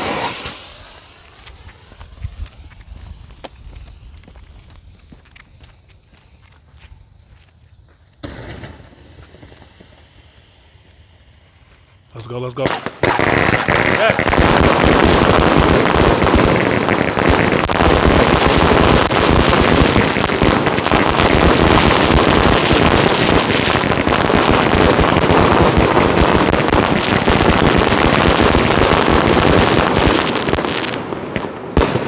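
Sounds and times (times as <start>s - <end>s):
fireworks banging and crackling: 0.0s - 32.0s.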